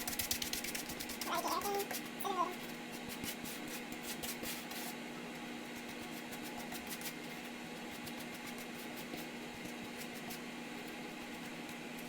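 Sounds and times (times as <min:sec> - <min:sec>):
low fan-like hum: 0:00.0 - 0:12.0.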